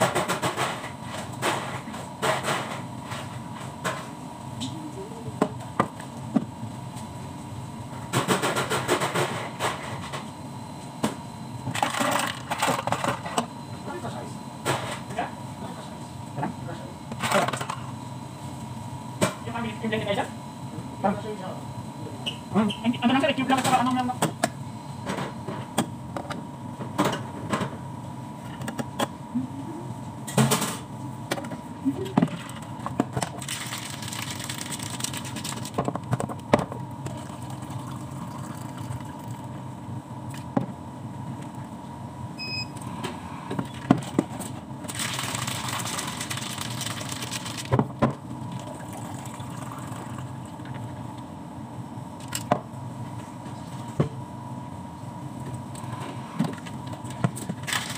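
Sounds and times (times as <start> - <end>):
shop equipment hum: 0.0 - 57.9.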